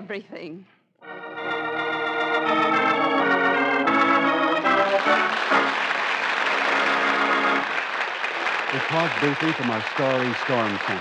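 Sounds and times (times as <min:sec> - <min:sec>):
organ chords: 0:01.0 - 0:10.8.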